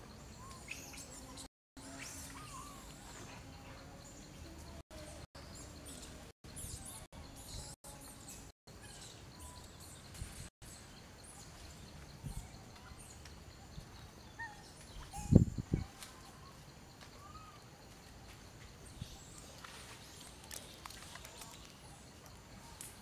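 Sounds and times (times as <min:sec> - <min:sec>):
birds chirping faintly: 0:00.0 - 0:23.0.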